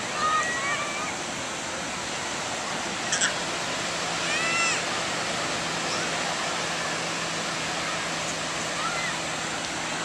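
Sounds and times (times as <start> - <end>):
ocean surf on a beach: 0.0 - 10.0.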